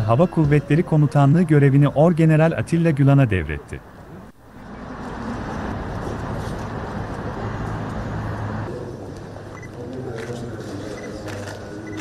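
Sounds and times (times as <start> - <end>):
low rumble of distant traffic: 0.0 - 12.0.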